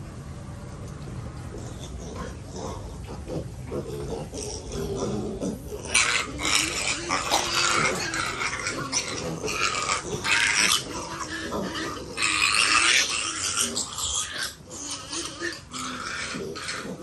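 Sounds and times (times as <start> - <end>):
piglets grunting: 1.5 - 17.0
piglets squealing: 3.2 - 17.0.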